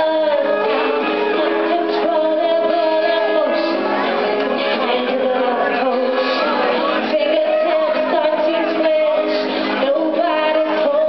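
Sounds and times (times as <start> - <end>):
electric guitar: 0.0 - 11.0
violin: 0.0 - 11.0
woman singing into a microphone: 0.0 - 11.0.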